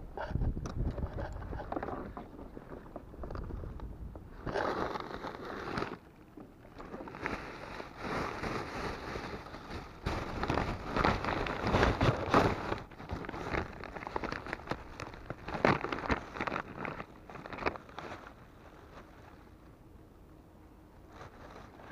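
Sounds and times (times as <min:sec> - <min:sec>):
plastic bag and clothing rustling: 0:01.1 - 0:06.1, 0:06.7 - 0:19.7, 0:21.0 - 0:21.9.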